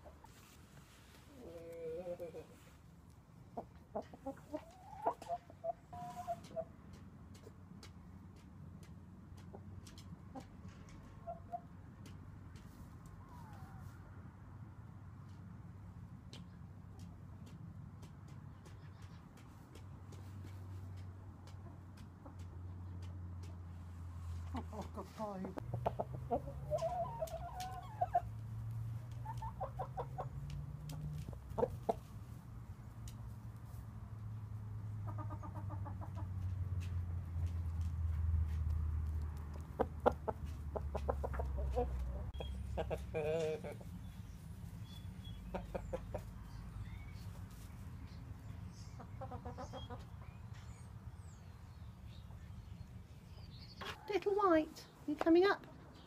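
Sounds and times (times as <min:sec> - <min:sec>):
chickens clucking: 0:00.0 - 0:14.4, 0:15.0 - 0:56.0.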